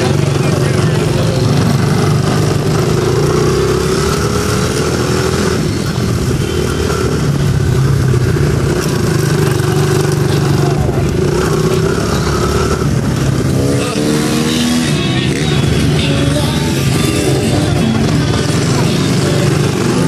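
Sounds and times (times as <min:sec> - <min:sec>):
mini dirt bike engines running: 0:00.0 - 0:20.0.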